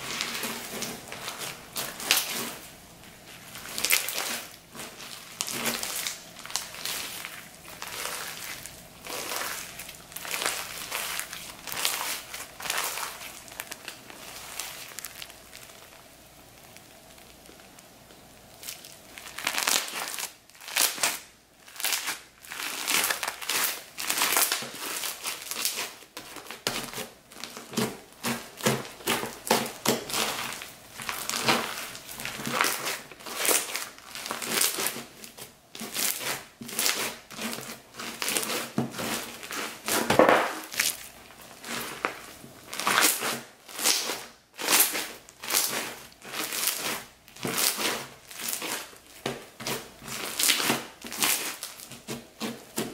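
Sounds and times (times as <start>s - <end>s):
crunchy slime squishing: 0.0s - 52.9s.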